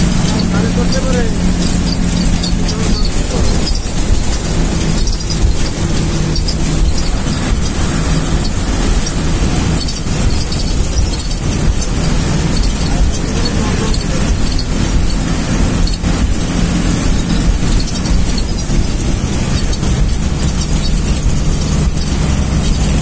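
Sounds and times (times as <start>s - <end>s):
low engine drone: 0.0s - 23.0s
tyre and wind noise: 0.0s - 23.0s.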